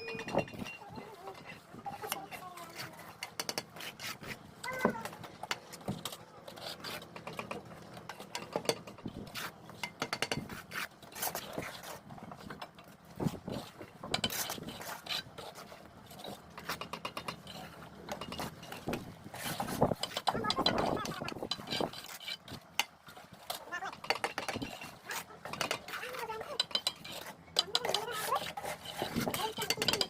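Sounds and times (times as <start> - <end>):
trowel scraping mortar and bricks: 0.0 - 30.0.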